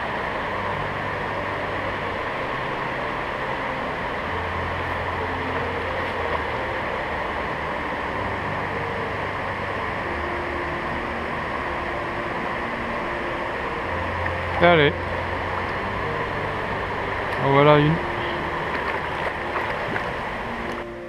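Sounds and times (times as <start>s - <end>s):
water rushing over weir: 0.0s - 21.0s.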